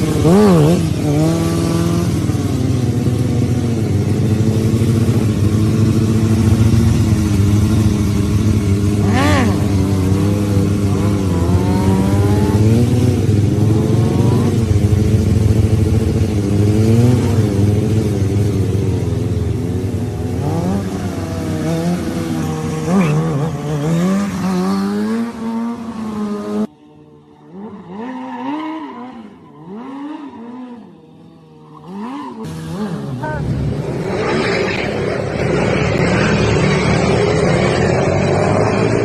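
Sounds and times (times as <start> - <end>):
motorcycle engine revving: 0.0 - 26.7, 27.4 - 39.0
quieter engine rising and falling: 0.0 - 26.7, 27.5 - 39.0.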